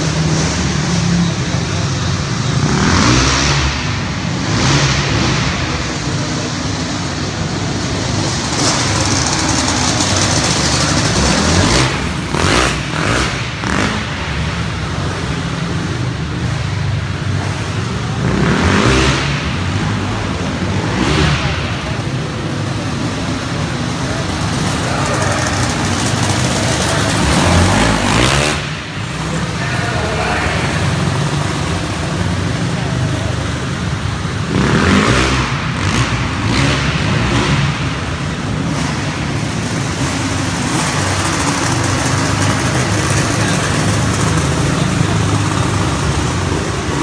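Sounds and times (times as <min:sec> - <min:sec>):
racing cars passing: 0:00.0 - 0:47.0.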